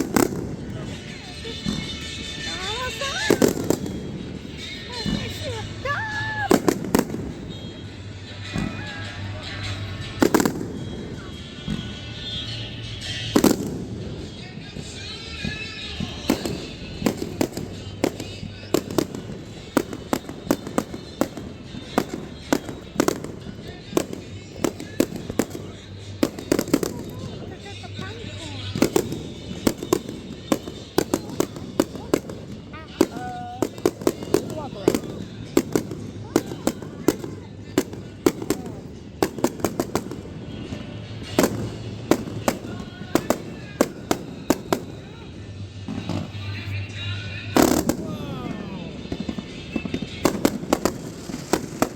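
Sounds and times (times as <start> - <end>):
fireworks bangs: 0.0 - 51.9.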